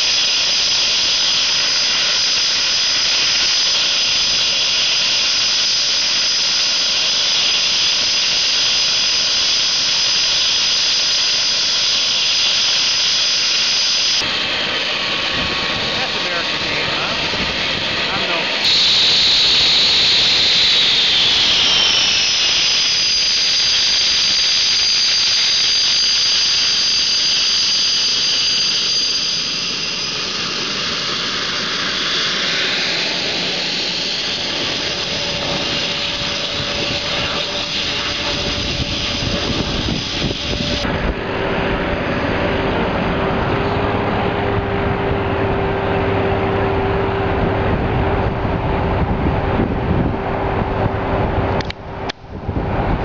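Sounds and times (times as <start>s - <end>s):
jet engines whining: 0.0s - 53.0s.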